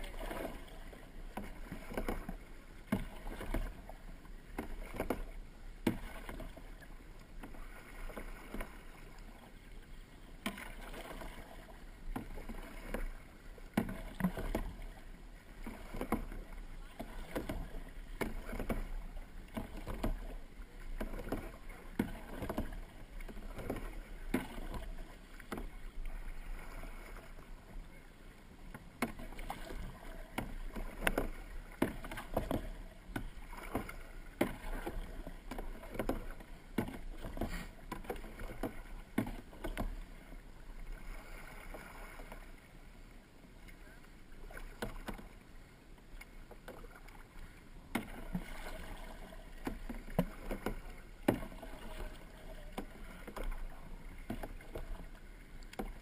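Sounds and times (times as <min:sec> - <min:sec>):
moving water: 0:00.0 - 0:56.0
paddle strokes splashing: 0:00.0 - 0:56.0.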